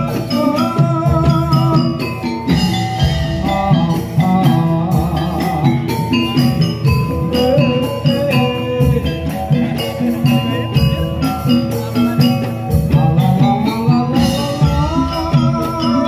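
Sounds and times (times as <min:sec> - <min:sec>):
bright jingling: 0:00.0 - 0:16.0
drum beat: 0:00.0 - 0:16.0
gamelan music: 0:00.0 - 0:16.0.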